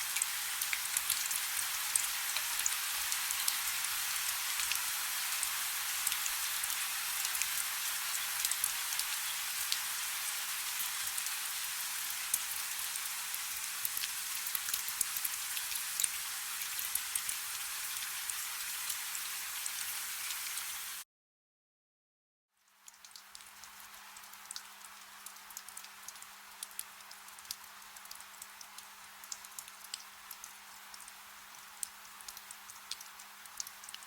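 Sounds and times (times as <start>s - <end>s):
soft rain hiss: 0.0s - 21.0s, 22.6s - 34.0s.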